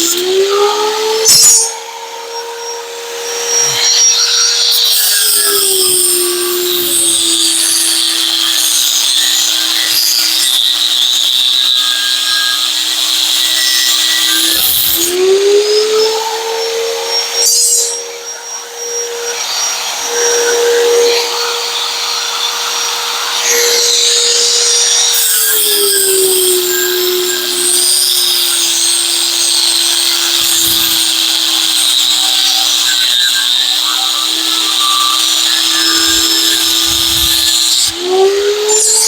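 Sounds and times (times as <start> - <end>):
angle grinder cutting steel: 0.0 - 39.0.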